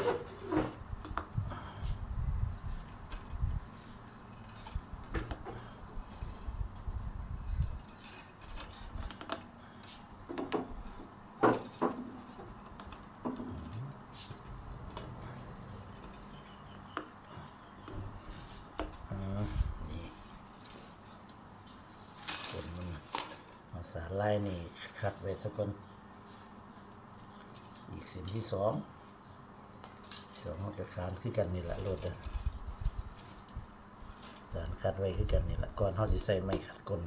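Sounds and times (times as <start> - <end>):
bamboo strips clicking and rustling: 0.0 - 24.6, 26.8 - 28.6, 29.8 - 37.0.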